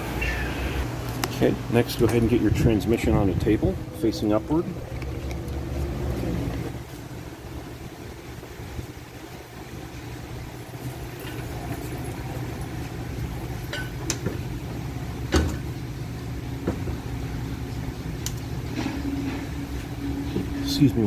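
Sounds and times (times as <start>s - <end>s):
second low hum: 0.0s - 21.0s
steady low hum: 0.0s - 21.0s.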